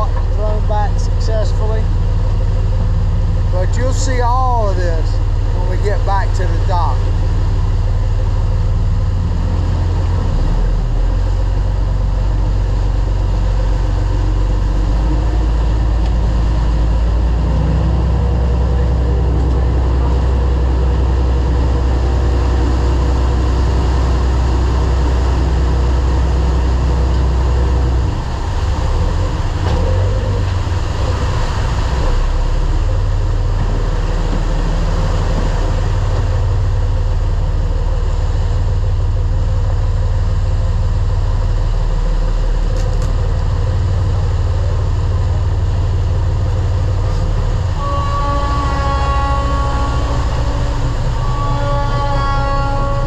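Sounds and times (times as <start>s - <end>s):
boat engines droning: 0.0s - 53.0s
churning wake rushing: 0.0s - 53.0s.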